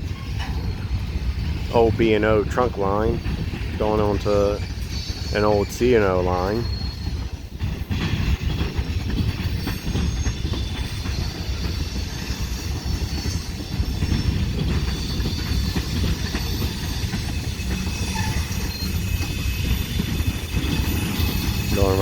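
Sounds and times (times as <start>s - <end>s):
freight train rumbling and clattering: 0.0s - 22.0s
wheel squeal: 0.0s - 22.0s.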